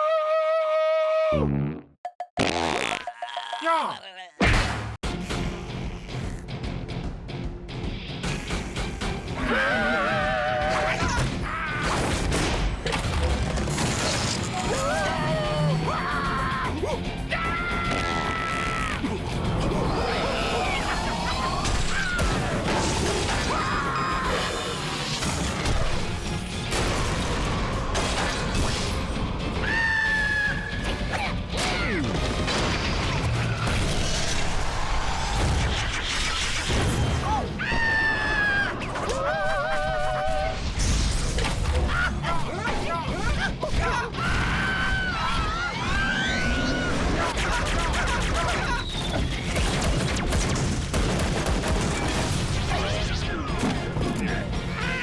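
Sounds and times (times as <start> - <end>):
cartoon background music: 8.2 - 34.1, 36.7 - 55.0.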